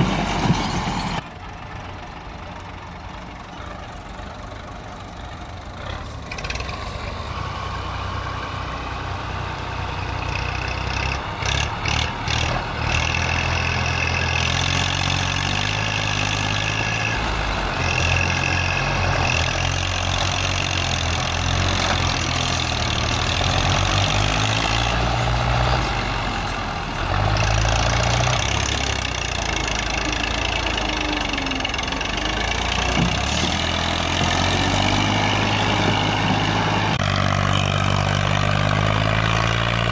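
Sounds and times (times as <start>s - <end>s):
second tractor engine running: 0.0s - 39.9s
tractor engine under heavy load: 0.0s - 39.9s.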